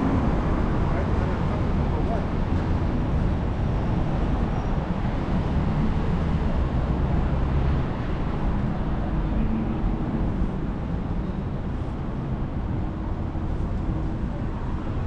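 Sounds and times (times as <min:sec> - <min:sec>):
car engines rumbling: 0:00.0 - 0:15.0.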